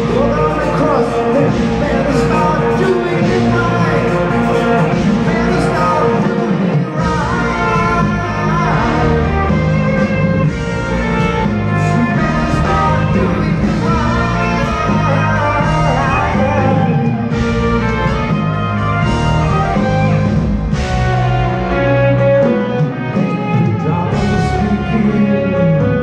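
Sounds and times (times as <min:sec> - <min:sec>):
person singing: 0:00.0 - 0:17.6, 0:22.4 - 0:26.0
bass guitar: 0:00.0 - 0:26.0
drums: 0:00.0 - 0:26.0
electric guitar: 0:00.0 - 0:26.0
keyboards: 0:00.0 - 0:26.0.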